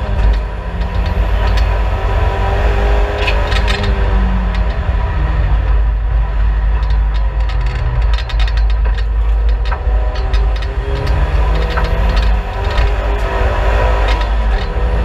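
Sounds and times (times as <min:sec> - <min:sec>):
race car engine drone: 0:00.0 - 0:15.0
road rumble: 0:00.0 - 0:15.0
sharp clicks and ticks: 0:00.0 - 0:15.0.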